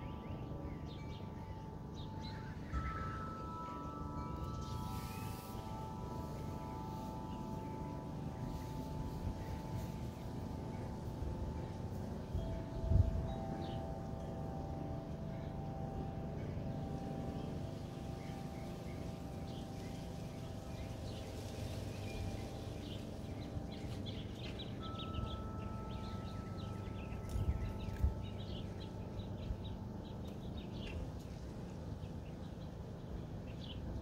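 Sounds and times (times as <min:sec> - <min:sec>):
low wind rumble: 0:00.0 - 0:34.0
songbirds chirping: 0:00.0 - 0:34.0
wind chimes ringing: 0:00.0 - 0:34.0.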